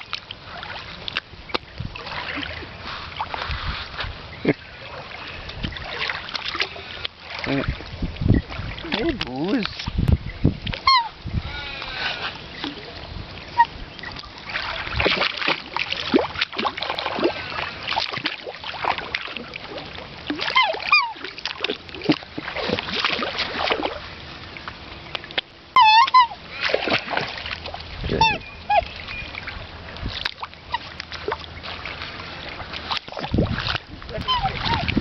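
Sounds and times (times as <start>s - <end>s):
swans splashing in water: 0.0s - 10.0s, 10.6s - 35.0s.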